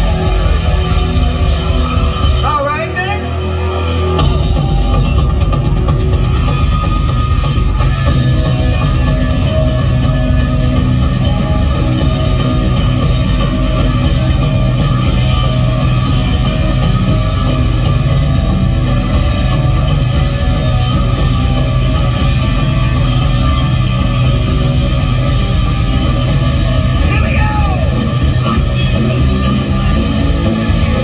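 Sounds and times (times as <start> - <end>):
distorted electric guitar: 0.0 - 31.0
drums: 0.0 - 31.0
live punk rock band: 0.0 - 31.0.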